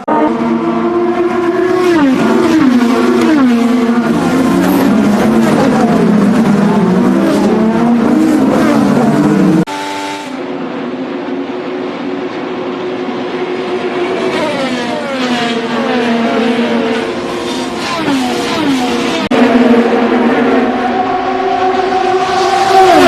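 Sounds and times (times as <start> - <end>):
race car engines passing by: 0.0 - 23.0.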